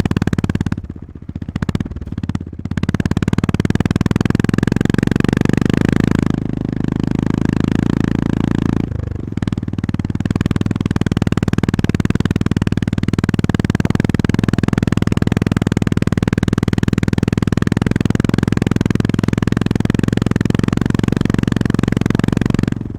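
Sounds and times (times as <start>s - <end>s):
motorcycle engine: 0.0s - 22.9s.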